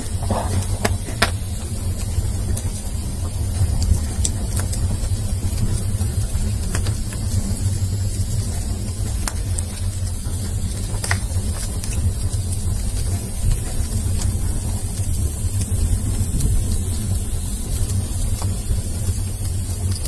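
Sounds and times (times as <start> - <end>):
burning wood crackling: 0.0 - 20.0
low roar of flames: 0.0 - 20.0.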